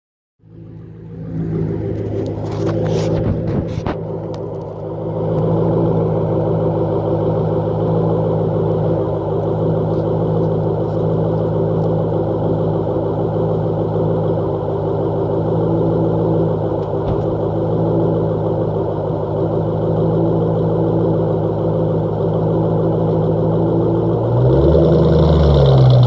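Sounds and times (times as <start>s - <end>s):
car engine idling: 0.4s - 26.0s.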